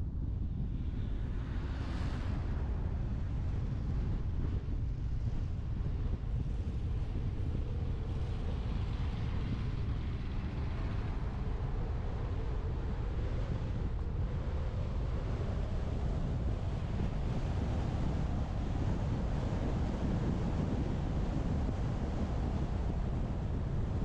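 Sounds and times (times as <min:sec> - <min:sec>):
road and tyre noise: 0:00.0 - 0:24.0
wind rushing over microphone: 0:00.0 - 0:24.0.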